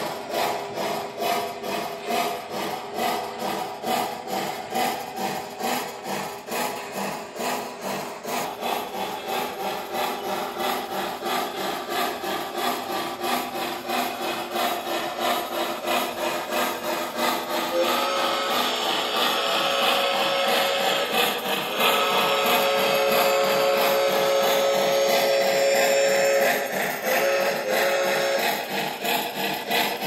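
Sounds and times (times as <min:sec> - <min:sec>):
model steam locomotive chuffing: 0:00.0 - 0:30.0
model trains running on track: 0:00.0 - 0:30.0.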